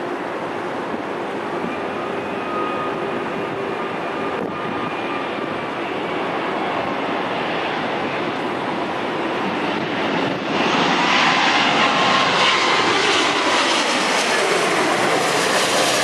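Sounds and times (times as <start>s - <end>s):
jet engines rushing with whine: 0.0s - 16.0s.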